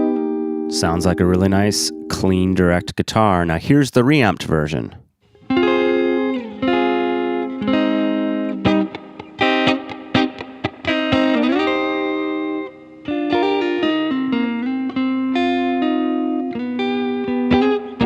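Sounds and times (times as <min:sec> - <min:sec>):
clean electric guitar chords: 0:00.0 - 0:03.0, 0:05.4 - 0:18.0.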